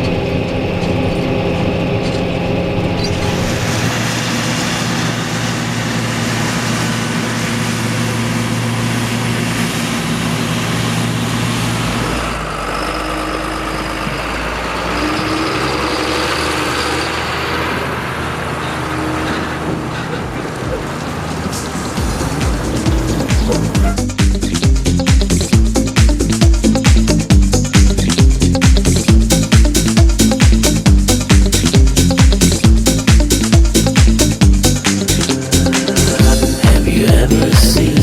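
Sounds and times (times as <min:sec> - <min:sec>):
diesel engines running under load: 0:00.0 - 0:38.0.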